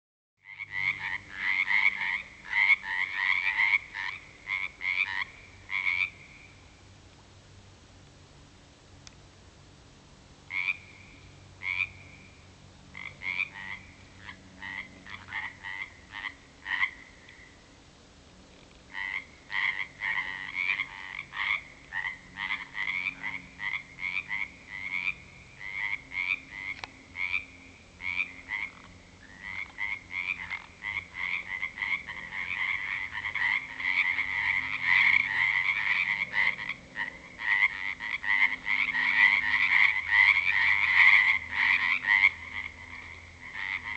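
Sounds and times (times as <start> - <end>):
frogs croaking: 0.4 - 6.9, 10.4 - 17.8, 18.4 - 43.9.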